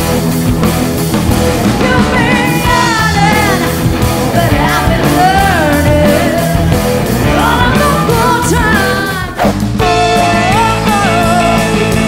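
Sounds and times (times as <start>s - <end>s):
live rock band playing: 0.0s - 12.0s
sliding bending lead guitar line: 0.0s - 12.0s.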